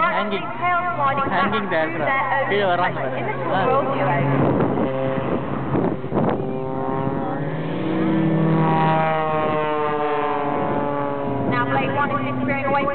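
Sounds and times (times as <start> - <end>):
propeller aircraft engines droning: 0.0 - 12.9.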